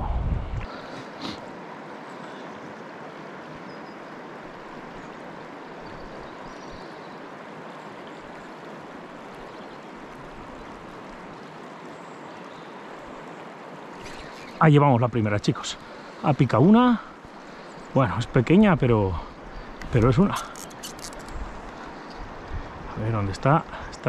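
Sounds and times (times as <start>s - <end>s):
river current rushing: 0.0s - 24.0s.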